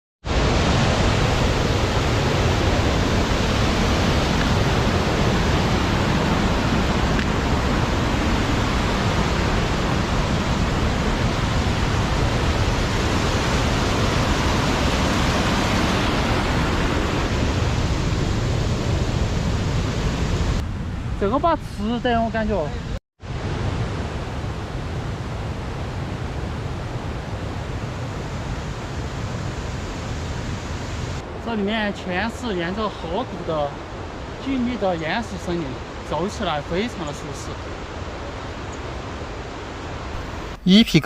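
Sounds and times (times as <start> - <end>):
mountain stream rushing: 0.2 - 20.6, 27.9 - 41.0.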